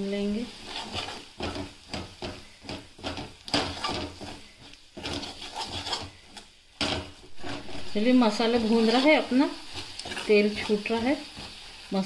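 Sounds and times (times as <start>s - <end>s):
light sizzle of frying: 0.0s - 12.0s
metal spatula scraping a pan: 0.2s - 12.0s.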